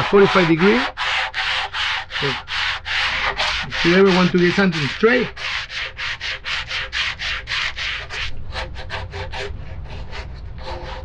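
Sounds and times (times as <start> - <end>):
sandpaper rasping back and forth: 0.0 - 11.0.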